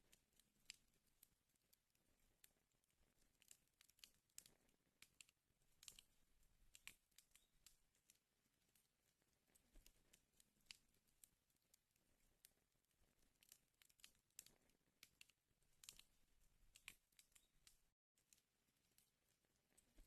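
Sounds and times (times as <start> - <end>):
wood fire crackling faintly: 0.0 - 20.0.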